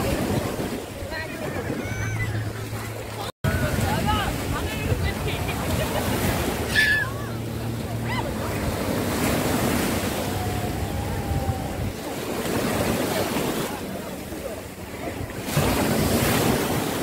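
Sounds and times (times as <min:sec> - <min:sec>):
small waves washing onto beach: 0:00.0 - 0:17.0
wind buffeting microphone: 0:00.0 - 0:17.0.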